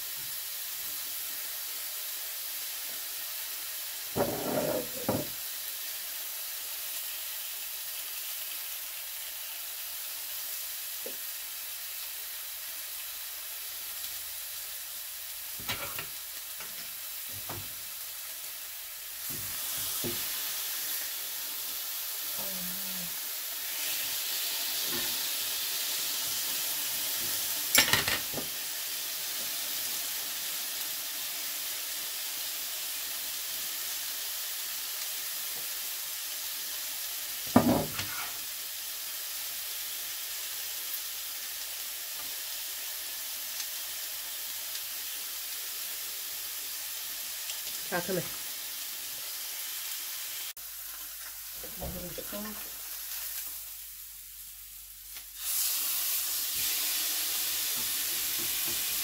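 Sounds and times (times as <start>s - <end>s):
chops sizzling in a frying pan: 0.0s - 59.0s.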